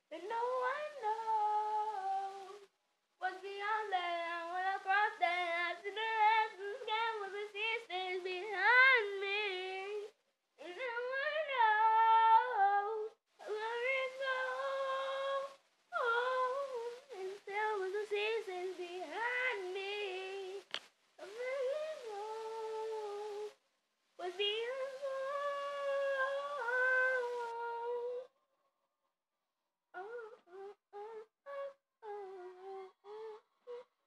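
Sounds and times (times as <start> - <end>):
girl singing wordlessly: 0.0 - 23.6, 24.2 - 28.3, 30.0 - 33.9.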